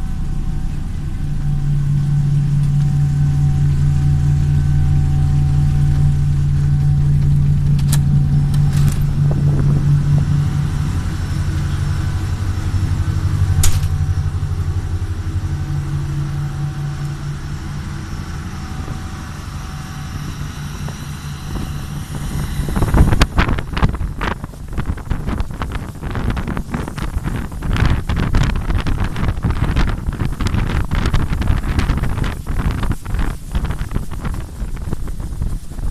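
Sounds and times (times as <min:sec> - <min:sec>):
boat diesel engine drone: 0:00.0 - 0:35.9
wind buffeting microphone: 0:00.0 - 0:35.9.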